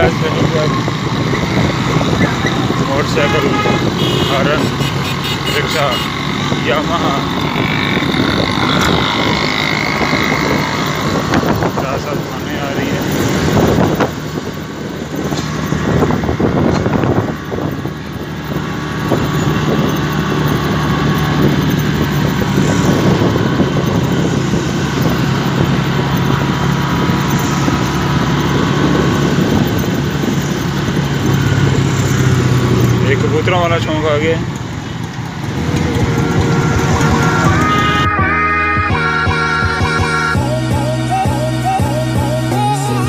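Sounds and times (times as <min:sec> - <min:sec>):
motorcycle engine running: 0:00.0 - 0:39.3.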